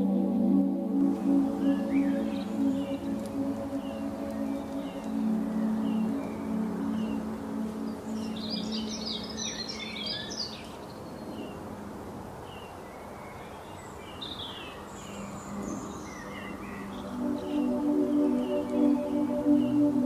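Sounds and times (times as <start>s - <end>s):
soft steady hiss: 0.0s - 20.0s
small birds chirping: 0.1s - 20.0s.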